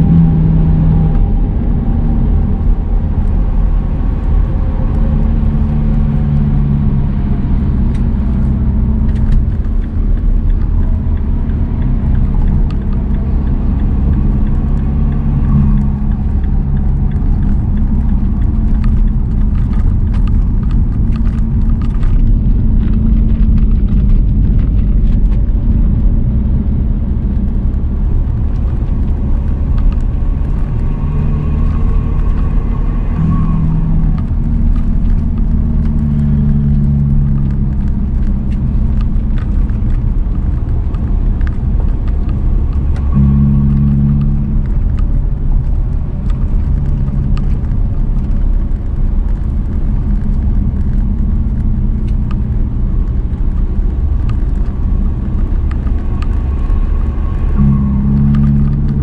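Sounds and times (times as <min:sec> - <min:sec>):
car cabin road and engine rumble: 0:00.0 - 0:59.0.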